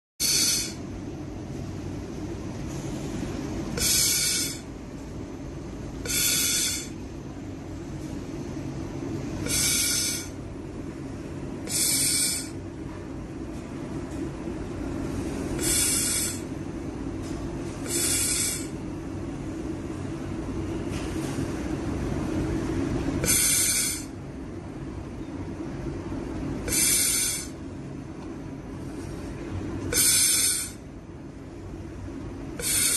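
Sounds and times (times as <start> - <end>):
machine hum: 0.2 - 32.9.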